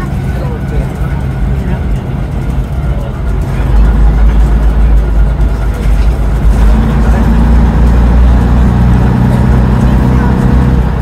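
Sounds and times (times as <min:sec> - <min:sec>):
bus diesel engine drone: 0:00.0 - 0:11.0
steady hum: 0:00.0 - 0:11.0.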